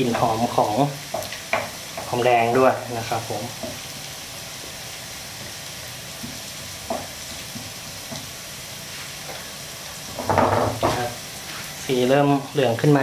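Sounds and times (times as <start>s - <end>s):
shallots sizzling in hot oil: 0.0s - 13.0s.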